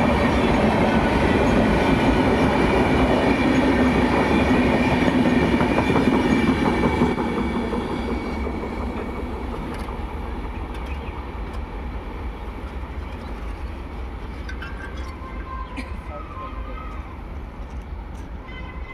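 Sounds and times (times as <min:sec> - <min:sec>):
train wheels clattering on rails: 0:00.0 - 0:16.0.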